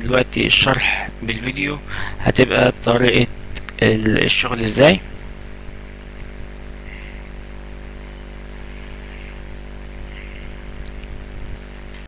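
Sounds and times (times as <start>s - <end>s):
mains hum with hiss: 0.0s - 12.0s.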